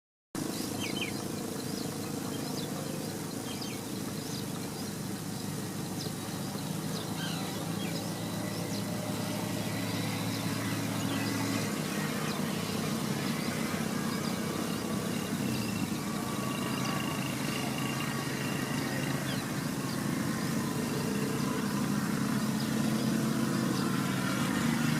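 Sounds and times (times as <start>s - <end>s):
low mechanical hum: 0.4s - 24.9s.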